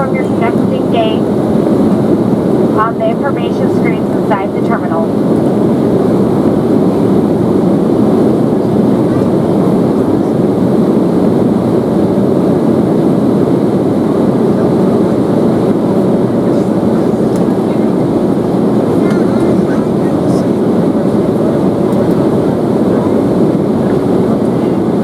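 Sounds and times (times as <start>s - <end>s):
airliner cabin engine drone: 0.0s - 25.0s.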